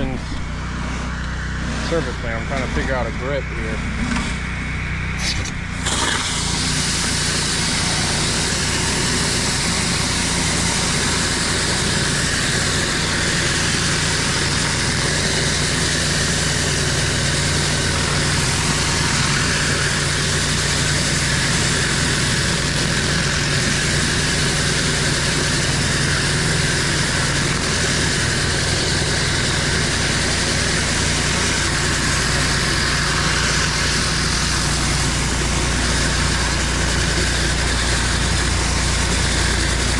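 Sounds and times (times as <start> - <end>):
pressure washer engine running: 0.0 - 39.9
high-pressure water hissing on concrete: 5.1 - 39.9.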